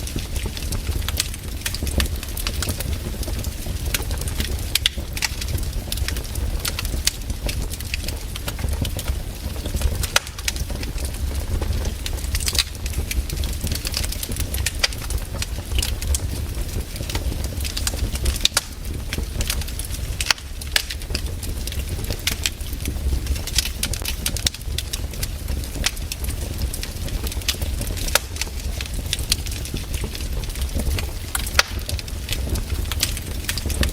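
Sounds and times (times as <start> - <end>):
low rumble of flames: 0.0 - 33.9
wood fire crackling and popping: 0.0 - 33.9.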